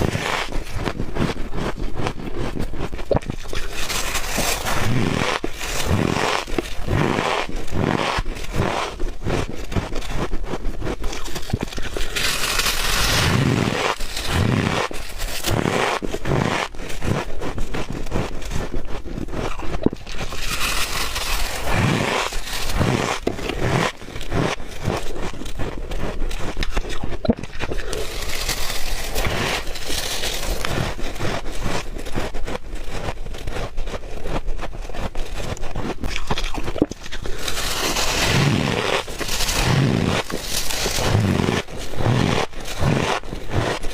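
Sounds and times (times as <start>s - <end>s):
ice crunching while chewing: 0.0s - 43.9s
jaw biting thuds: 0.1s - 43.9s.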